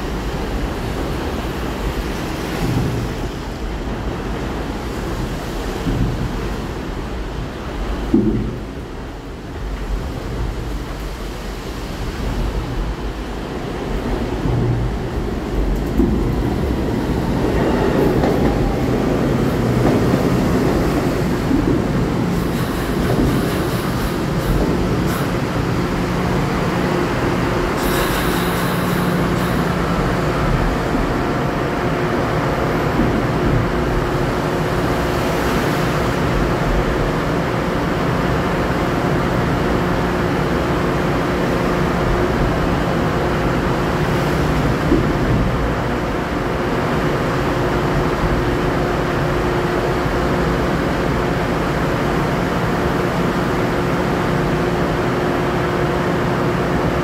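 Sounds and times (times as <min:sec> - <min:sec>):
train equipment humming: 0:00.0 - 0:57.0.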